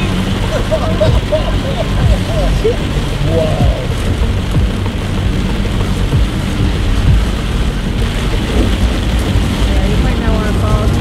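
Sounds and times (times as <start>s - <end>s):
heavy rain on car windshield: 0.0s - 11.0s
tyres on flooded road: 0.0s - 11.0s.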